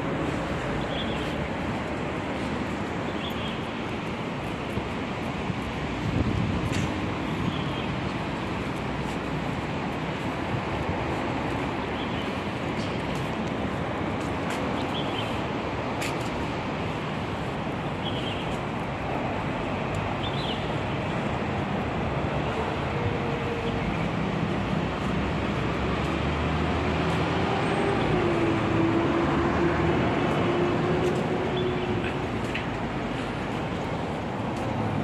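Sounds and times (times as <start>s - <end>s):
city street traffic: 0.0s - 35.0s.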